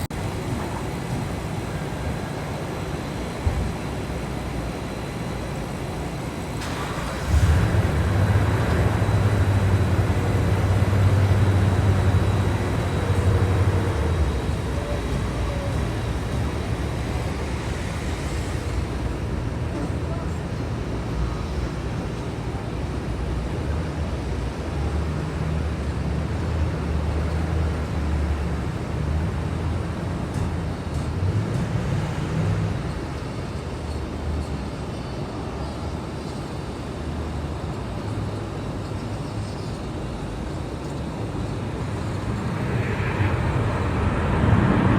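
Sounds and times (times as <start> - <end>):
jet engine rumble: 0.0 - 44.9.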